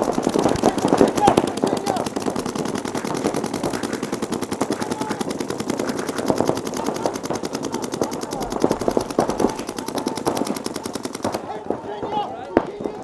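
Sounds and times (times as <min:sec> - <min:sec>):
paintball guns firing: 0:00.0 - 0:13.0.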